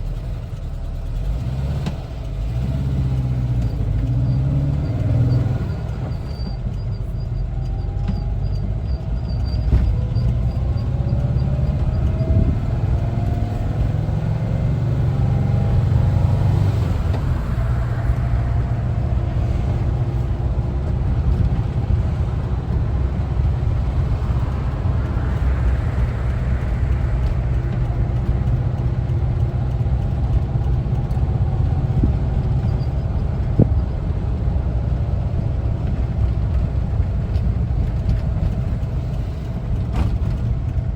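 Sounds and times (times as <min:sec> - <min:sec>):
road noise rumble: 0:00.0 - 0:40.9
van engine accelerating: 0:00.0 - 0:40.9.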